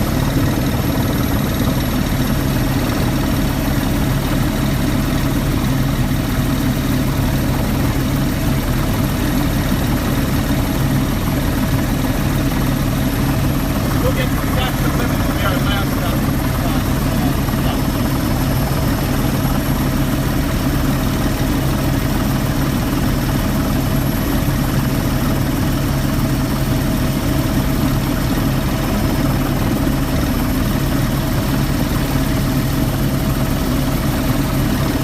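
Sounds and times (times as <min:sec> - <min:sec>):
helicopter rotor drone: 0:00.0 - 0:35.0.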